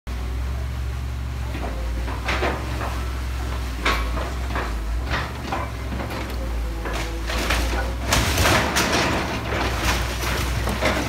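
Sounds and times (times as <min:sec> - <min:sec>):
excavator engine running: 0:00.1 - 0:11.0.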